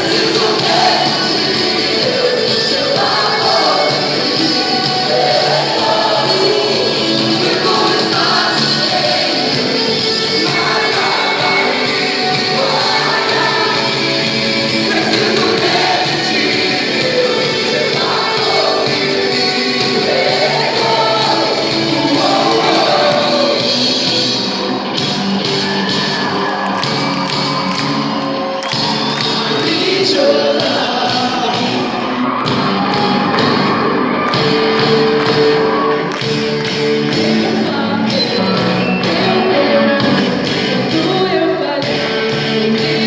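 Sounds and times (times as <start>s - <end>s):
person singing: 0.0s - 24.7s, 28.6s - 43.0s
worship band playing: 0.0s - 43.0s.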